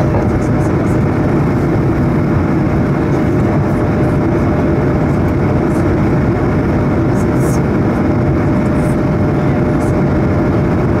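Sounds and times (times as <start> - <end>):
aircraft engine and airflow rush: 0.0 - 11.0.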